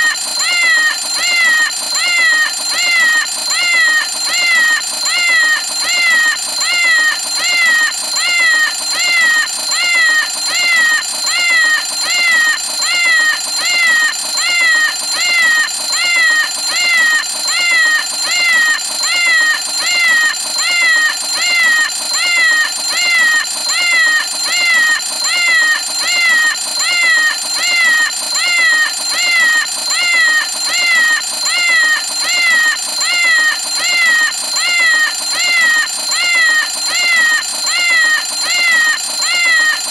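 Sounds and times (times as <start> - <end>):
cat meow alarm: 0.0 - 39.9.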